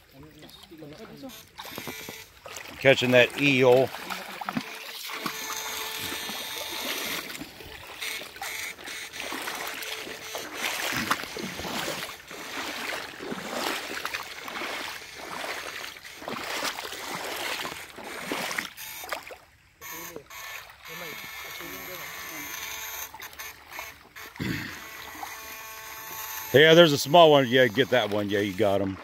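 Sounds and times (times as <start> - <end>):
river water running over stones: 0.0 - 19.8, 21.7 - 29.0
feet splashing wading: 0.0 - 29.0.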